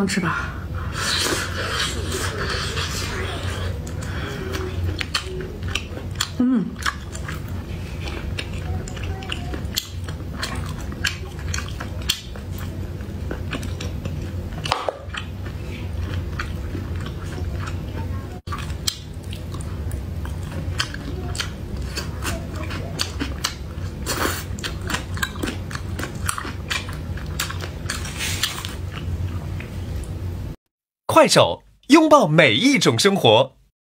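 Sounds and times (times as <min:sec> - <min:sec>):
chewing and biting: 0:01.1 - 0:29.7.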